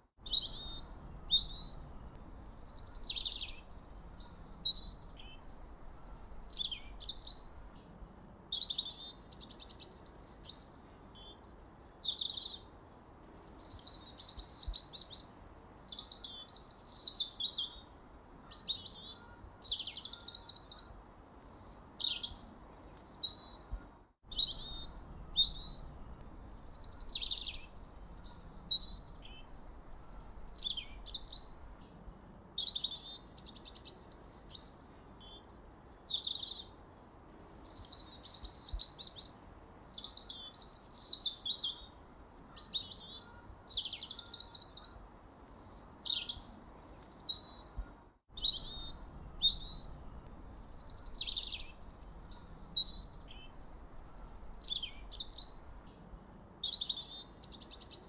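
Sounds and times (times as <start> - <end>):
faint background hiss: 0.0 - 58.0
birds singing: 0.2 - 12.7, 13.3 - 58.0.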